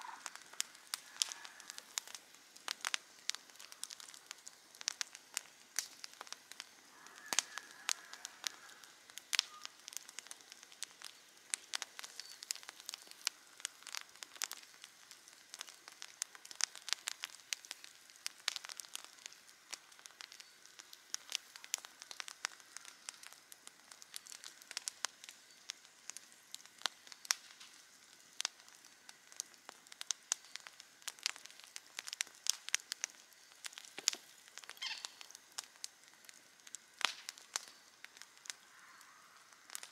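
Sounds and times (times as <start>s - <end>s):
campfire crackling and popping: 0.0s - 39.9s
faint steady hiss: 0.0s - 39.9s.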